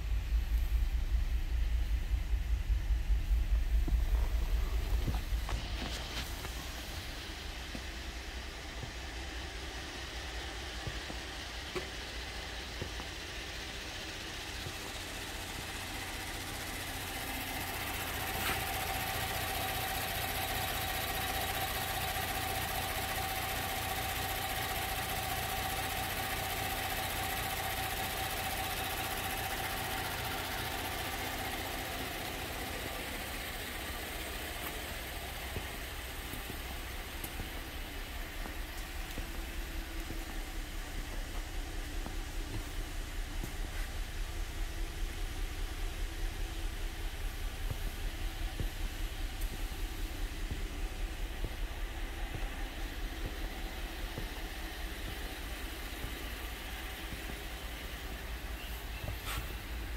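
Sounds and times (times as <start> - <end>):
car engine idling: 0.0 - 59.9
steady engine whine: 0.0 - 59.9.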